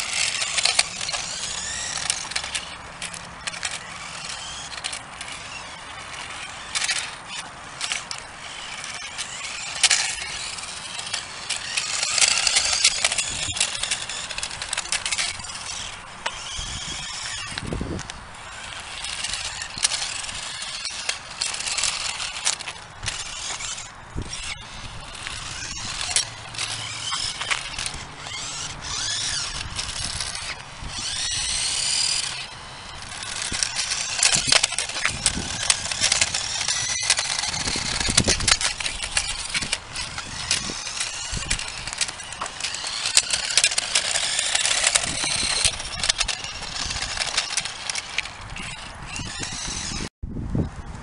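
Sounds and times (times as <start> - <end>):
sharp clicks and scrapes: 0.0 - 50.1
toy motorcycle motor whining: 0.0 - 50.1.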